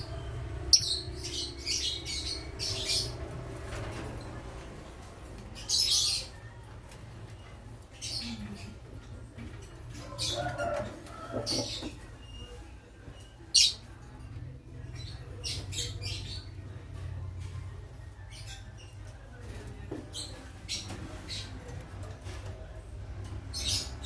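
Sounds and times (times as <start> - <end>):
birds chirping and squawking: 0.0 - 24.0.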